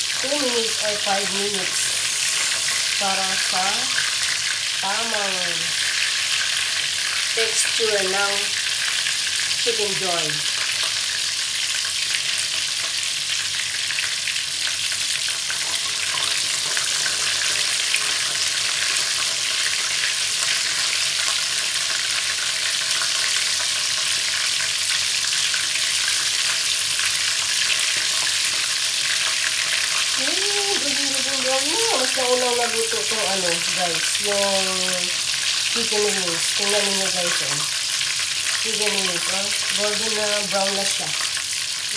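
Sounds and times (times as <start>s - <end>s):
chicken sizzling in hot oil: 0.0s - 41.9s.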